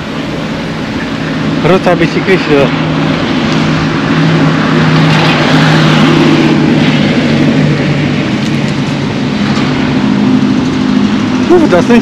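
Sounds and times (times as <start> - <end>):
street traffic noise: 0.0 - 12.0
vehicle engine humming: 0.0 - 12.0.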